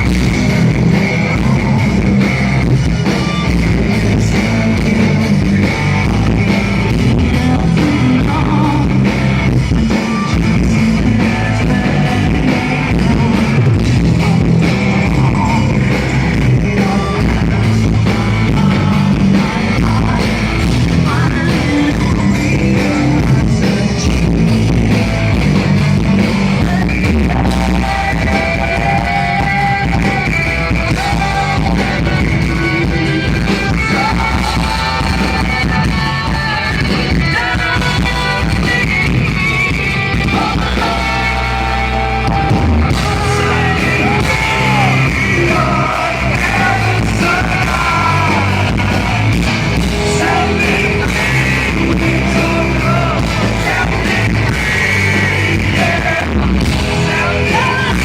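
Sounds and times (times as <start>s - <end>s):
bass guitar: 0.0s - 58.0s
distorted electric guitars: 0.0s - 58.0s
drums: 0.0s - 58.0s
person singing: 3.0s - 25.4s, 26.5s - 58.0s.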